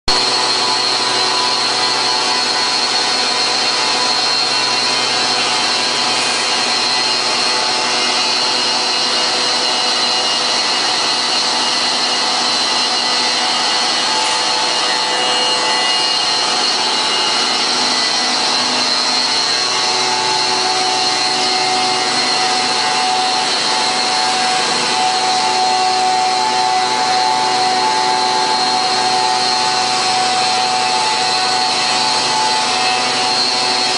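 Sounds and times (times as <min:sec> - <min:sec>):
stone cutting machine whine: 0:00.1 - 0:33.9.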